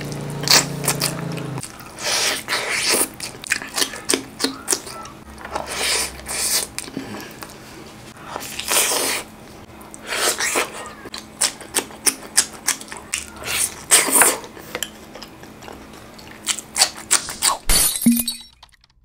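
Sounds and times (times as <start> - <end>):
person biting and chewing: 0.0 - 7.6, 8.2 - 17.7.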